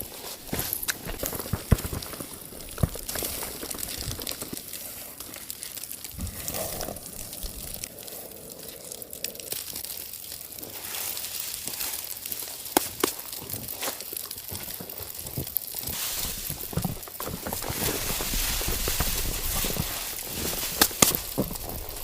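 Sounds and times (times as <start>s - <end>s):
crinkling and rustling: 0.0s - 22.0s.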